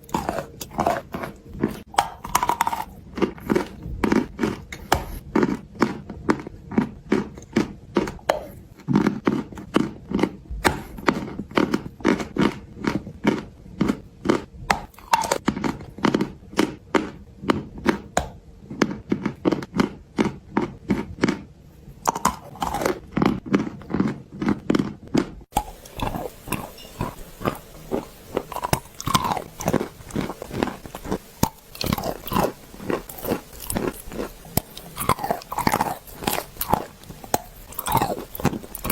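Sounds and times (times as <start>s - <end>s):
person chewing clay crunches: 0.0s - 38.9s.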